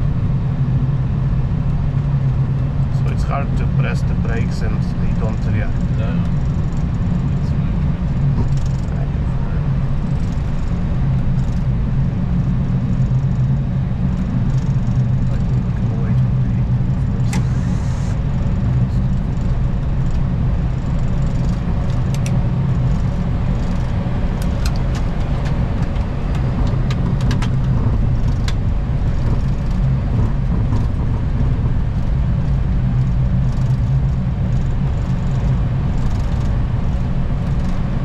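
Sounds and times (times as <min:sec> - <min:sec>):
cockpit engine rumble and hum: 0:00.0 - 0:38.0.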